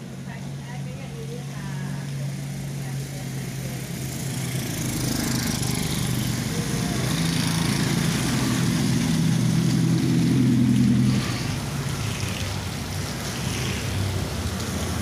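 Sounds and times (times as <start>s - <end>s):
tyres hissing on wet road: 0.0s - 15.0s
small motorcycle engine running: 3.0s - 15.0s.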